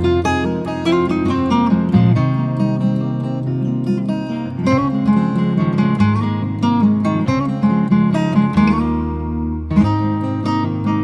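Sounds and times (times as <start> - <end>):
acoustic guitar plucking: 0.0 - 11.0.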